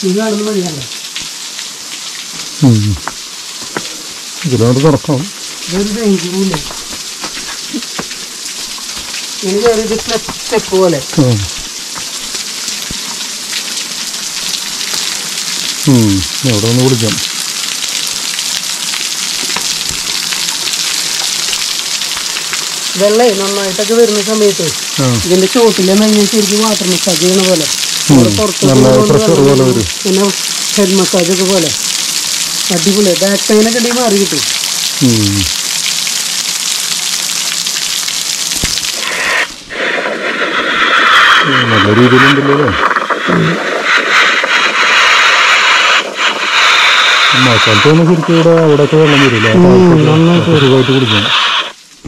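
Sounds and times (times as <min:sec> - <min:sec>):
small waterfall splashing on rocks: 0:00.0 - 0:52.0.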